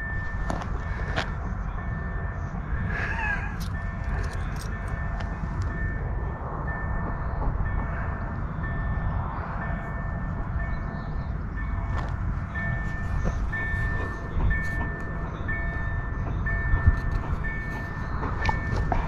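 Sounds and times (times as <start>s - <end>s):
level crossing warning tone: 0.0s - 19.0s
low rumble: 0.0s - 19.0s.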